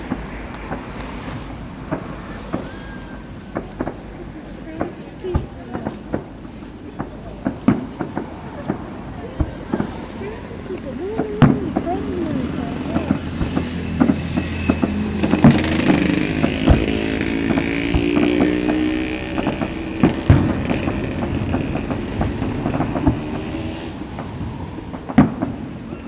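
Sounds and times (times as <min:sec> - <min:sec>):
firework bangs: 0:00.0 - 0:26.0
steady rumble: 0:00.0 - 0:26.0.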